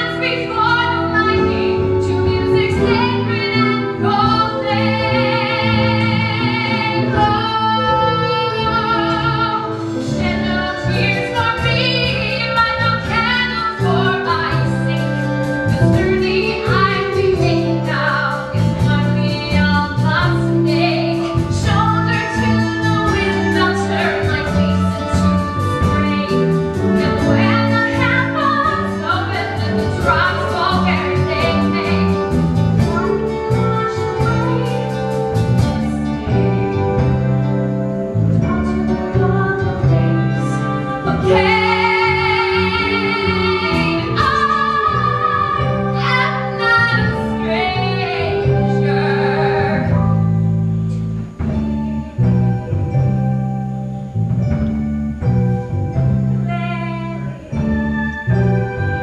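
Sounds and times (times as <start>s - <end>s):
woman singing a ballad: 0.0s - 35.8s, 38.3s - 50.4s
live band playing: 0.0s - 59.0s.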